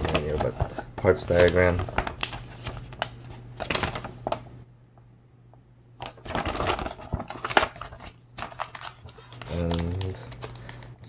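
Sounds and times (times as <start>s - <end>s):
paper rustling: 0.0s - 4.5s, 6.0s - 10.9s.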